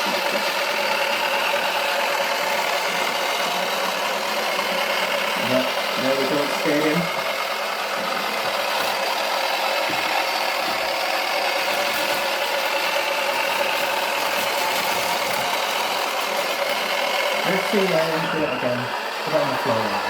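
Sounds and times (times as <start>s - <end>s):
toy washing machine motor whir: 0.0s - 20.0s.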